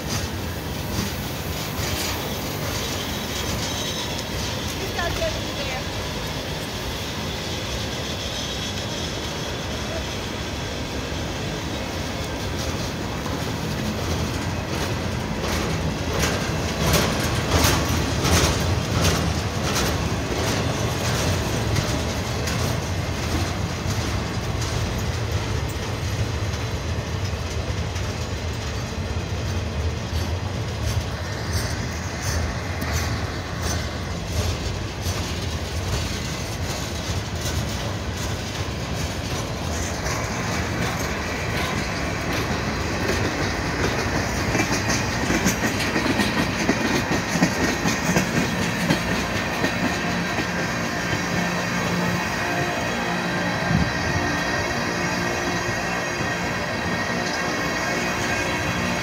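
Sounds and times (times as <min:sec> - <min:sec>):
freight cars rolling: 0:00.0 - 0:59.0.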